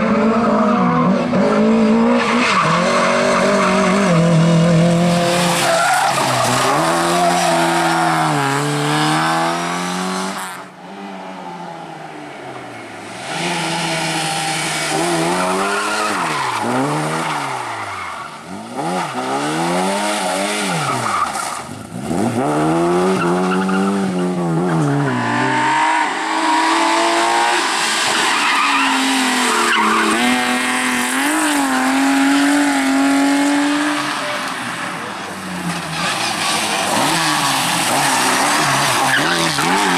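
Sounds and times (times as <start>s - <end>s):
rally car engines revving: 0.0s - 39.9s
tyres squealing and skidding: 0.4s - 9.6s, 12.5s - 22.2s, 23.0s - 32.7s, 33.4s - 39.9s.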